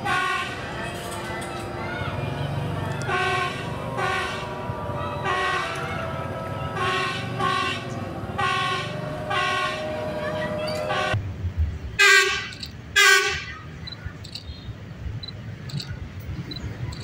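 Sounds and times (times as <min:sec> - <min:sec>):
low engine rumble: 0:00.8 - 0:17.0.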